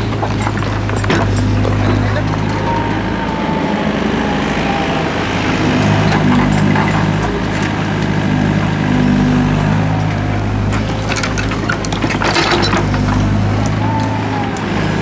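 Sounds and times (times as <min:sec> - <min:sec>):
knocks of rubble and soil: 0:00.0 - 0:02.9, 0:05.8 - 0:15.0
excavator diesel engine running: 0:00.0 - 0:15.0.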